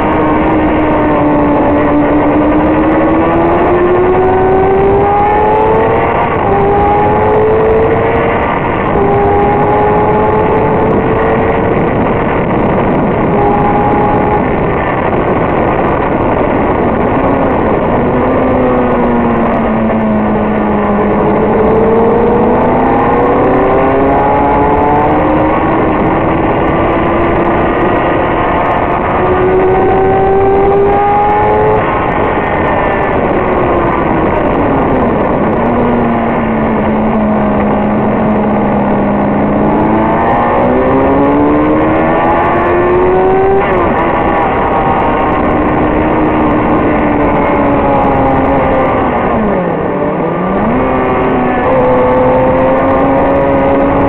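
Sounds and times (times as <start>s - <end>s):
motorcycle engine revving: 0.0s - 54.0s
wind rushing: 0.0s - 54.0s.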